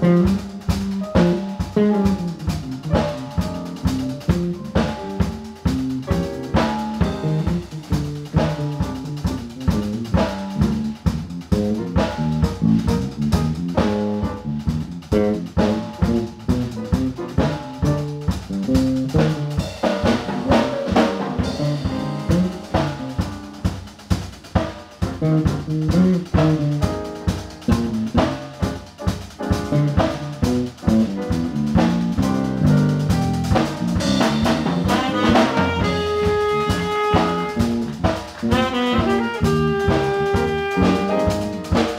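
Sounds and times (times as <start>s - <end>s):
bass drum: 0.0s - 41.9s
jazz quartet playing: 0.0s - 41.9s
snare and rimshot strokes: 0.1s - 41.9s.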